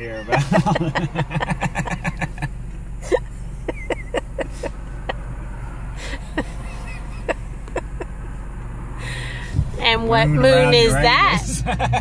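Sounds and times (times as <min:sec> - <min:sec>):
car engine and cabin hum: 0:00.0 - 0:12.0.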